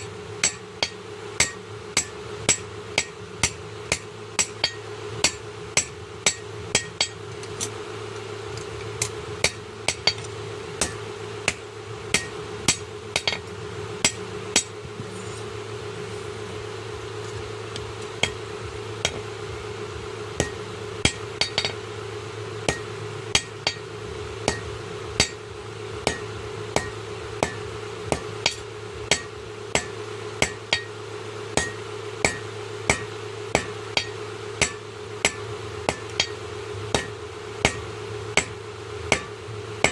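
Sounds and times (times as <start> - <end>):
hammer striking steel on anvil: 0.0 - 7.8, 9.0 - 14.8, 17.4 - 18.4, 19.0 - 19.3, 20.4 - 21.8, 22.7 - 31.0, 31.6 - 39.9
steady hum: 0.0 - 39.9.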